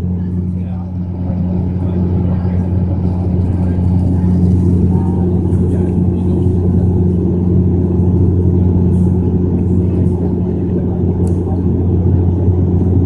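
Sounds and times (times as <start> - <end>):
turboprop cabin drone: 0.0 - 13.0.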